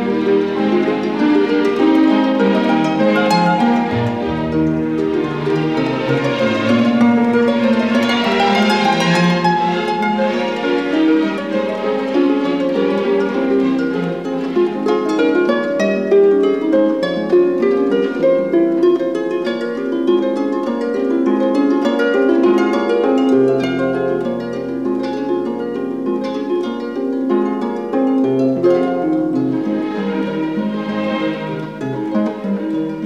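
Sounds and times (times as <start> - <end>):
harp plucked notes: 0.0 - 33.0.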